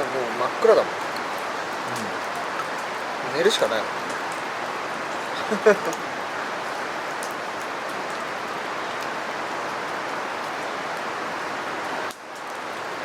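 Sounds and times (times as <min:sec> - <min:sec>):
campfire hissing and crackling: 0:00.0 - 0:13.0.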